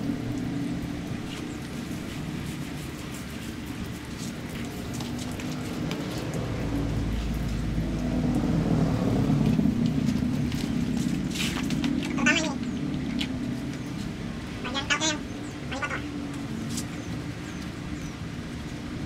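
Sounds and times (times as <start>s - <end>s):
water spraying on motorcycle: 0.0s - 19.0s.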